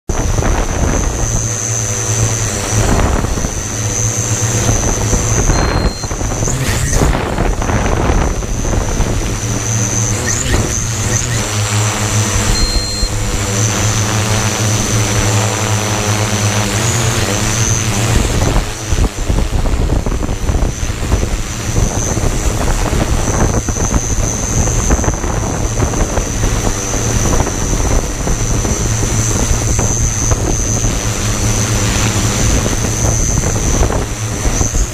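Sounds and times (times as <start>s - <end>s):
drone motors and propellers: 0.1s - 34.9s
wind on microphone: 0.1s - 34.9s.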